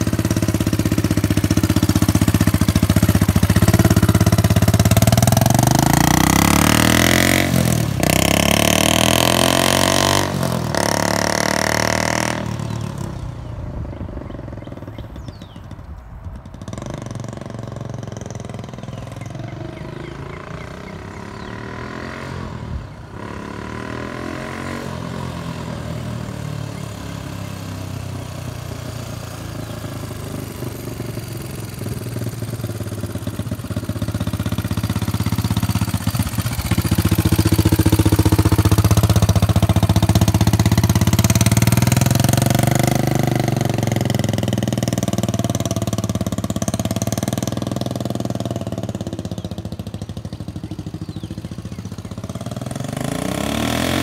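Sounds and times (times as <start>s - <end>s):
motor tricycle engine revving: 0.0s - 54.0s.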